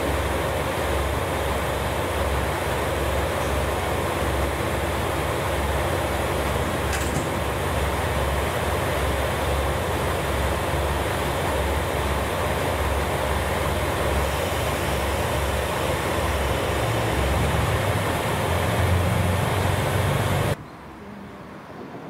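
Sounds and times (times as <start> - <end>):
diesel railcar engine idling: 0.0 - 21.4.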